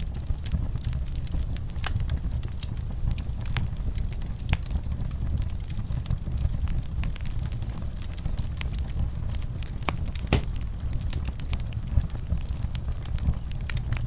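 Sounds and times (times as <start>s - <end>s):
fire crackling and popping: 0.0s - 14.0s
low rumble of flame: 0.0s - 14.0s.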